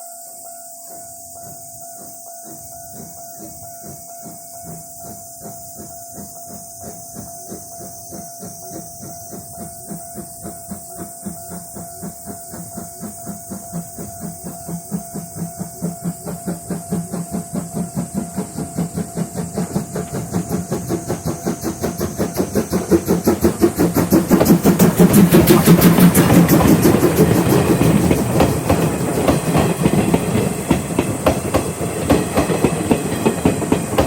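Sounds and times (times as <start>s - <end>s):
steam locomotive exhaust chuffs: 0.6s - 34.0s
steam hissing: 0.8s - 34.0s.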